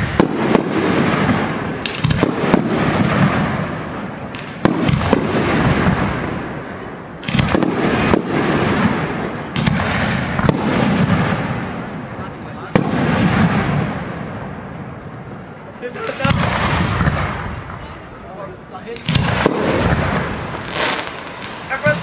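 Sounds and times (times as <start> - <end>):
firework shells bursting: 0.0 - 17.8.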